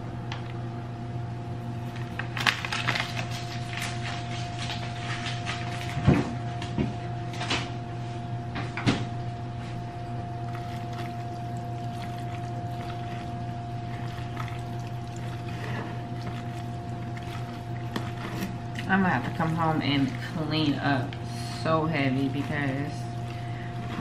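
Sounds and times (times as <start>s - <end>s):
steady electrical hum: 0.0s - 24.0s
hands mixing food in bowl: 1.6s - 7.0s, 9.1s - 24.0s.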